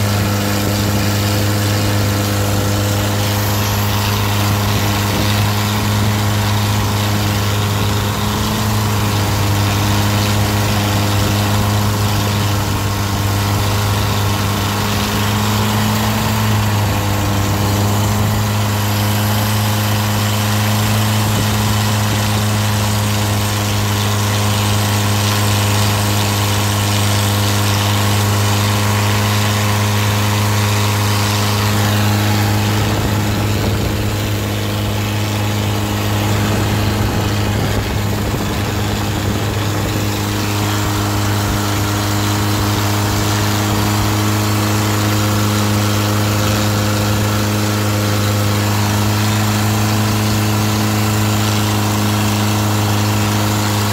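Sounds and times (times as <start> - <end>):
boat engine droning: 0.0 - 53.9
water rushing along hull: 0.0 - 53.9.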